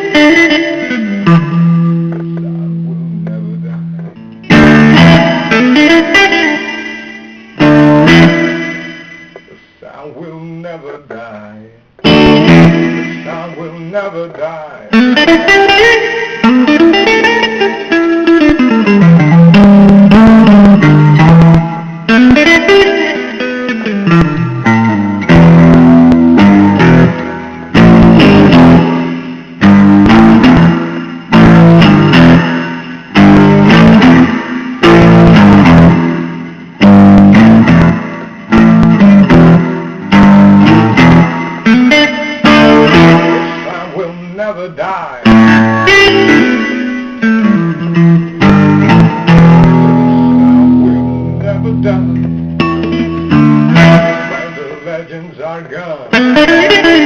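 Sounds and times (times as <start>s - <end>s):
bass line: 0.0s - 54.8s
electric guitar: 0.0s - 57.0s
steady beat: 0.0s - 57.0s.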